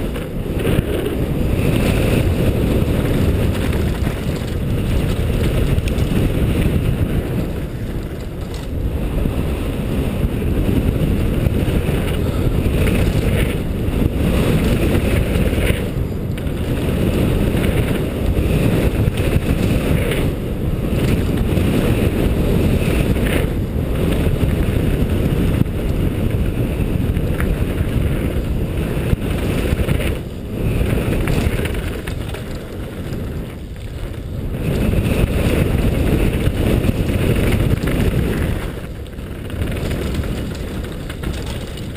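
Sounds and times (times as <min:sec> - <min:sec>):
mountain bike rumbling over dirt: 0:00.0 - 0:41.9
wind buffeting microphone: 0:00.0 - 0:41.9.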